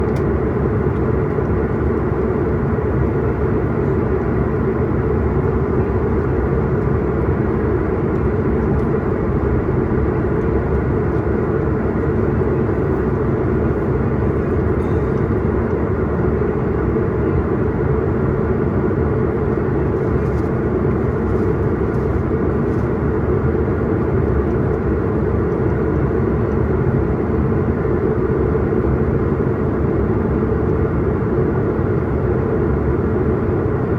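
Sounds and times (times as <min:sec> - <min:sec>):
airliner cabin engine noise: 0:00.0 - 0:33.9.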